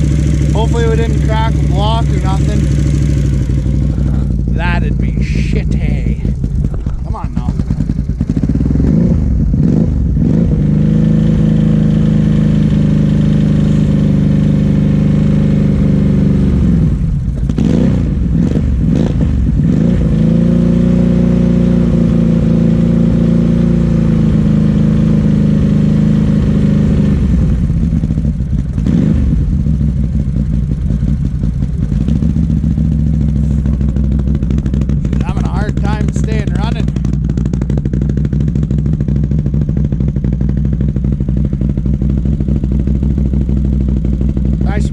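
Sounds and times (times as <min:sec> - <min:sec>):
atv engine running roughly: 0:00.0 - 0:44.9.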